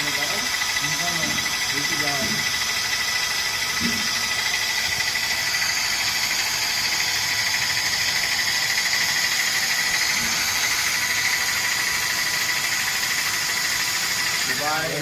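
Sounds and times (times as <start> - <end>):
pump hissing with high whine: 0.0 - 15.0.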